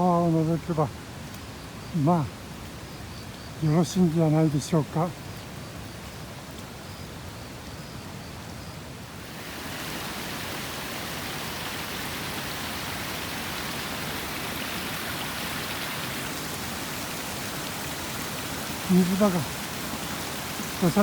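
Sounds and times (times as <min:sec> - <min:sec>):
rush of flowing water: 0:00.0 - 0:21.0.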